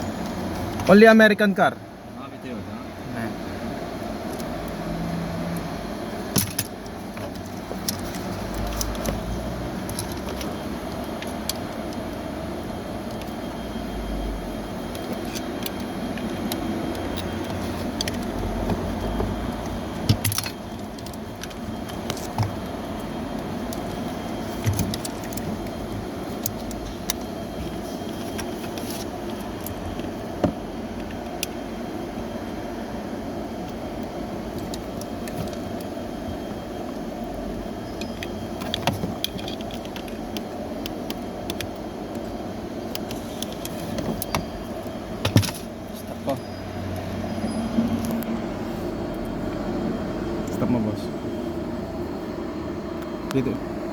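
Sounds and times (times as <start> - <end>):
background hum: 0.0 - 53.9.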